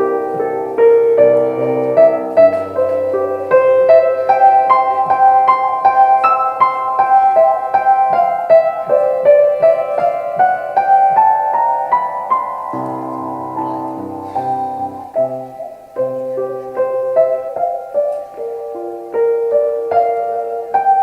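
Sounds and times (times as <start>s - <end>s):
piano repeated chords: 0.0s - 21.0s.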